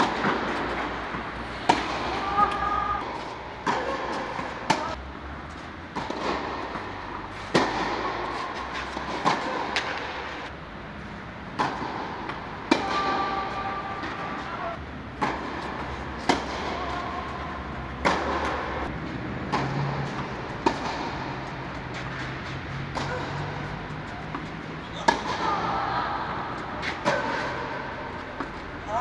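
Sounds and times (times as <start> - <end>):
tennis balls struck by rackets: 0.0 - 29.0.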